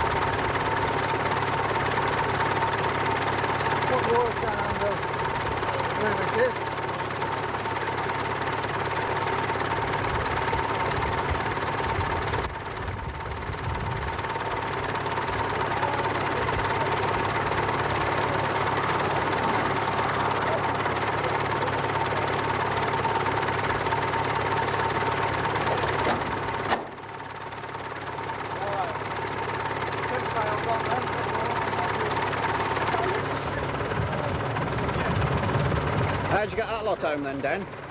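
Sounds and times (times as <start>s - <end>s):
engine idling: 0.0s - 37.9s.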